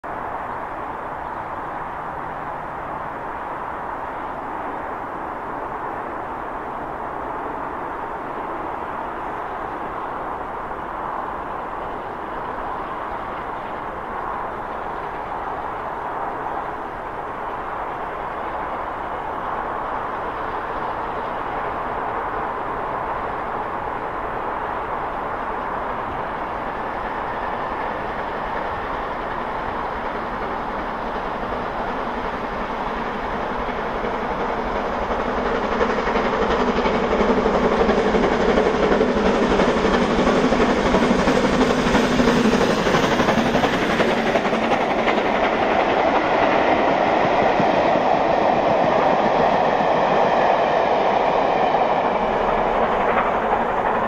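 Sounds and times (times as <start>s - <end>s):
steam locomotive heavy exhaust: 0.1s - 54.0s.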